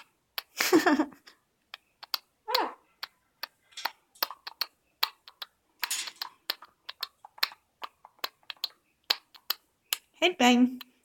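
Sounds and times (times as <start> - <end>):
person's rhythm clicks: 0.0 - 2.3, 3.0 - 11.0.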